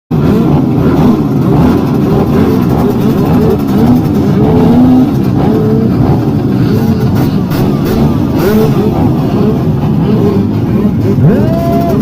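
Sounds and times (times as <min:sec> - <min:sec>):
motorcycle engines revving: 0:00.1 - 0:12.0.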